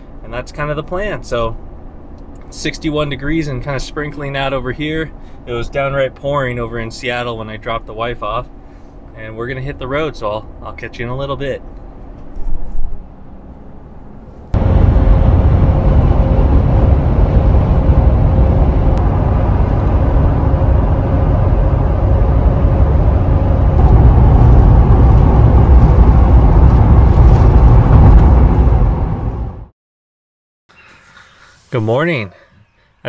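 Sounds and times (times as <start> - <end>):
road and wind noise: 0.0 - 29.7.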